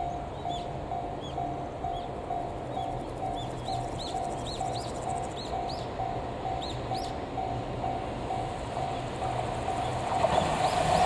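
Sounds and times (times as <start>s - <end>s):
level crossing warning bell ringing: 0.0s - 10.5s.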